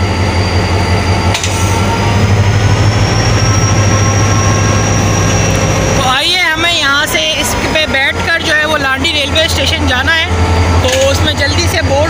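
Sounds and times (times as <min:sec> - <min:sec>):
diesel locomotive engine hum: 0:00.0 - 0:12.0.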